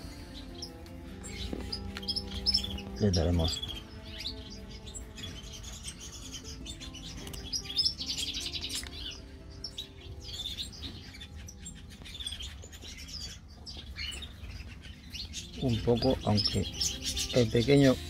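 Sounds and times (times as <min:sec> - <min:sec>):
finches chirping: 0:00.0 - 0:18.0
soft background music: 0:00.0 - 0:18.0.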